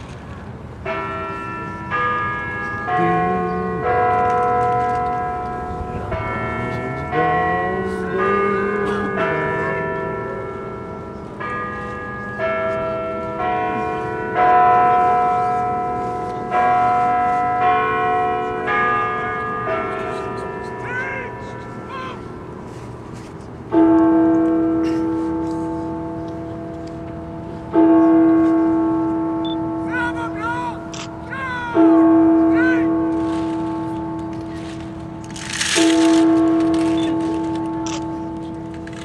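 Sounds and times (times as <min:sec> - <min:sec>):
bells playing a slow tune: 0:00.8 - 0:39.0.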